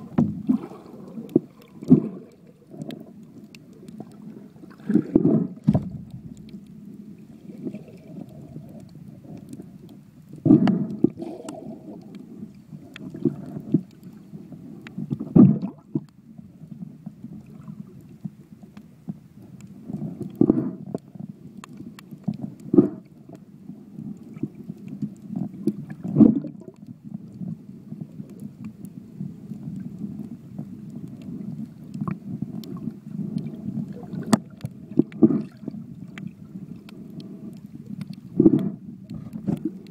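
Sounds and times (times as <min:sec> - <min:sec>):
muffled underwater churning: 0:00.0 - 0:39.9
water swishes: 0:00.0 - 0:39.9.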